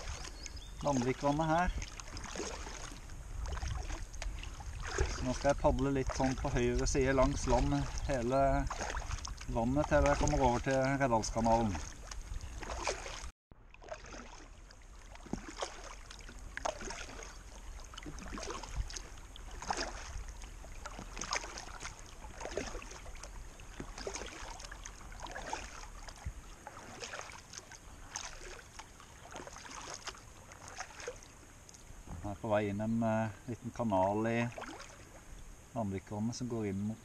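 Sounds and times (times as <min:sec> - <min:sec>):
kayak paddle splashing water: 0:00.0 - 0:32.1, 0:34.1 - 0:35.3.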